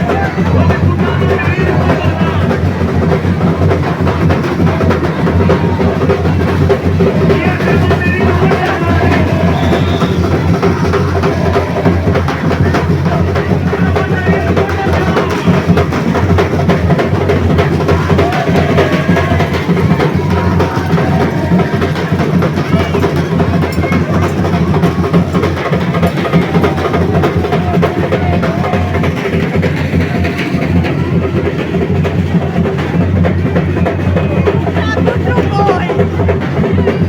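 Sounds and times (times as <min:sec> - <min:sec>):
fast percussion drumming: 0:00.0 - 0:37.0
heavy bass drum: 0:00.0 - 0:37.0
voices: 0:00.0 - 0:37.0.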